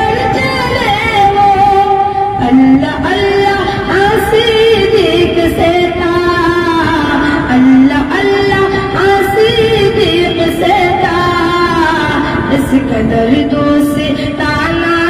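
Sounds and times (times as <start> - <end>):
boy singing devotional song: 0.0 - 15.0.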